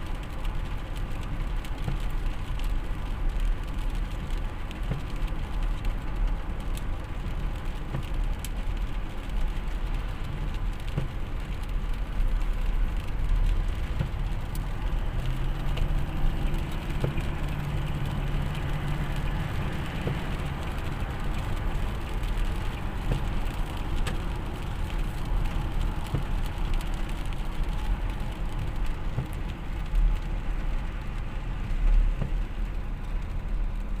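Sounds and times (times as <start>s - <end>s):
rain: 0.0s - 34.0s
vehicle engine and tyres rumbling: 0.0s - 34.0s.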